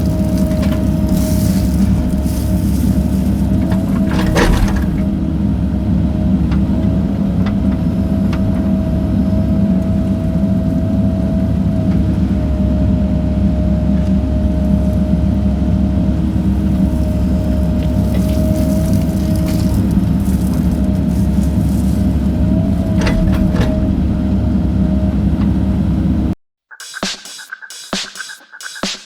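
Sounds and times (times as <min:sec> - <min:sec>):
excavator diesel engine: 0:00.0 - 0:26.4.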